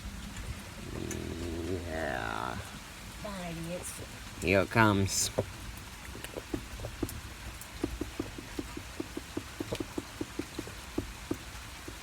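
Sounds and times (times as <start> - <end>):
raindrops tapping hard surface: 0.0 - 12.0.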